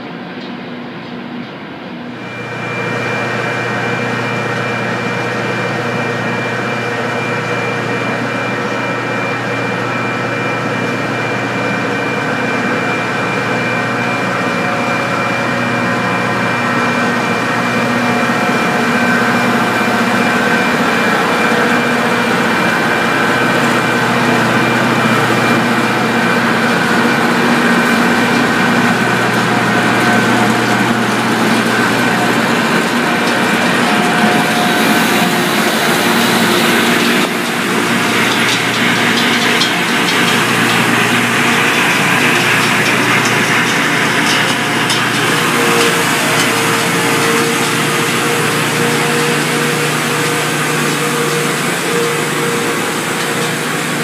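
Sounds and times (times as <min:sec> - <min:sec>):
rail grinder train droning: 0:00.0 - 0:54.0.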